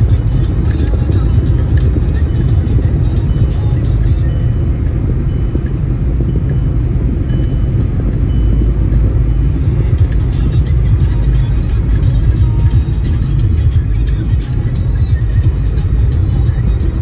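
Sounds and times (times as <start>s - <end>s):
car interior highway rumble: 0.0s - 17.0s.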